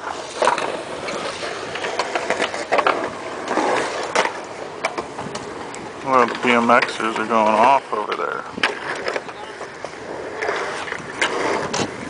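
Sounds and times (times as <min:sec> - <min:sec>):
wheels rolling over concrete: 0:00.0 - 0:12.0.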